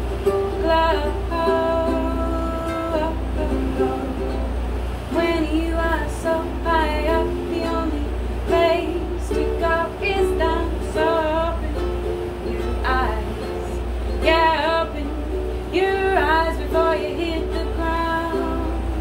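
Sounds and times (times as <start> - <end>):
steady low hum: 0.0 - 19.0
ukulele strumming: 0.0 - 19.0
woman singing: 0.3 - 19.0.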